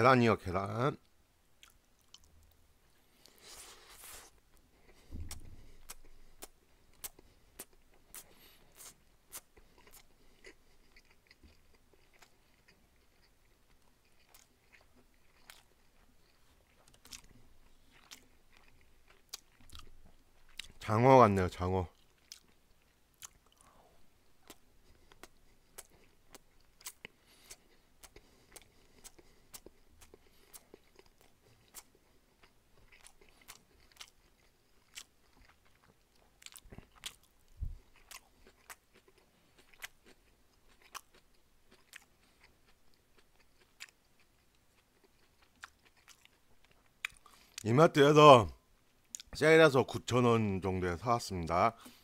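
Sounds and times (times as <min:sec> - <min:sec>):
chewing with mouth clicks: 0:01.6 - 0:02.6, 0:03.2 - 0:20.8, 0:21.9 - 0:47.7.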